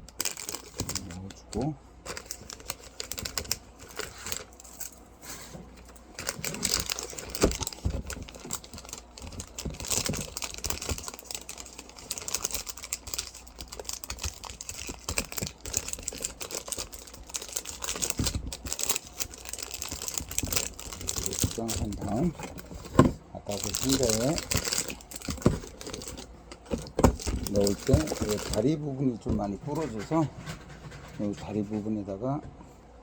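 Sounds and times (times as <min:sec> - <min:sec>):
plastic bag crinkling and rustling: 0:00.0 - 0:31.7.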